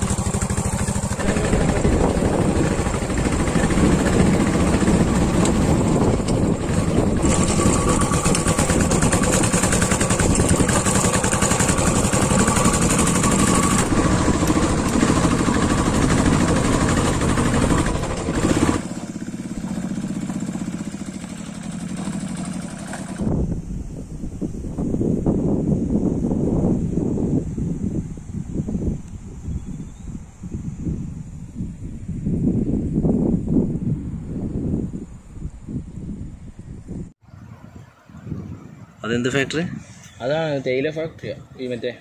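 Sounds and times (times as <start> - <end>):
motorcycle engine running: 0.0 - 37.1.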